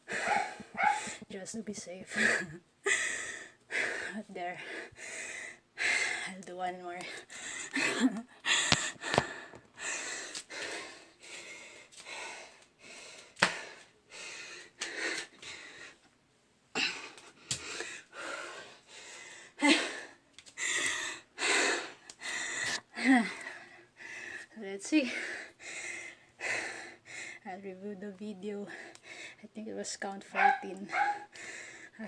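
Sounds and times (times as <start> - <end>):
person breathing hard and wheezing: 0.0 - 1.3, 2.1 - 6.3, 7.1 - 16.1, 16.8 - 27.5, 28.7 - 29.4, 30.4 - 32.0.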